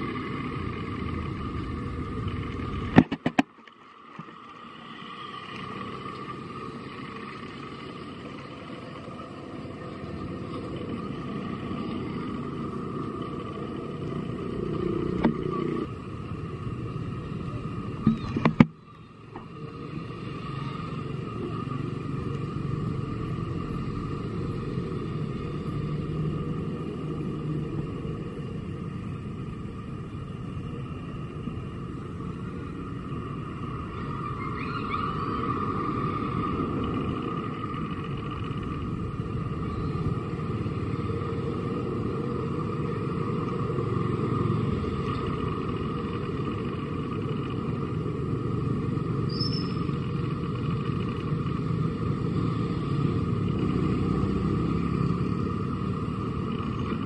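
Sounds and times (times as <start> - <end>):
outdoor background rumble: 0.0 - 57.0.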